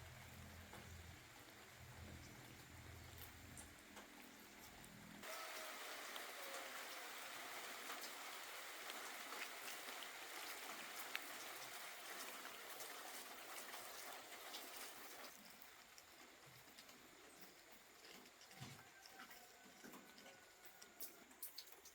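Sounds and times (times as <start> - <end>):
rain falling: 0.0 - 21.9.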